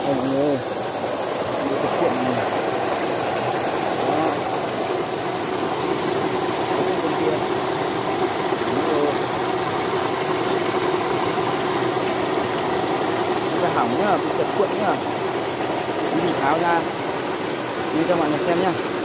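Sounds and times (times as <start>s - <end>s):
turbine generator humming: 0.0s - 19.0s
water rushing through turbine: 0.0s - 19.0s.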